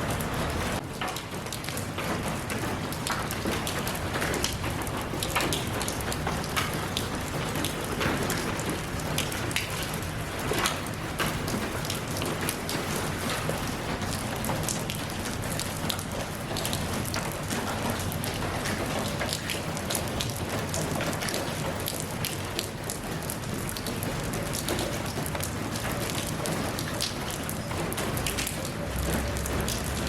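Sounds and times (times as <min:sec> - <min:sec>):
rain drops pattering: 0:00.0 - 0:30.0.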